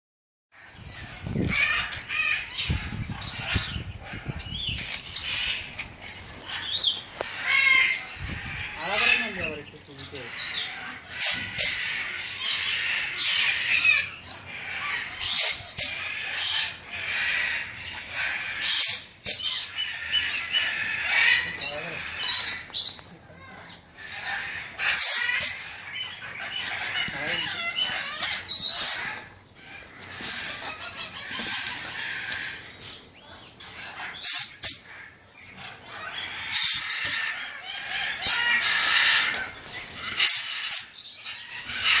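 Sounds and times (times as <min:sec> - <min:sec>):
parrots squawking and chattering: 0:00.6 - 0:42.0.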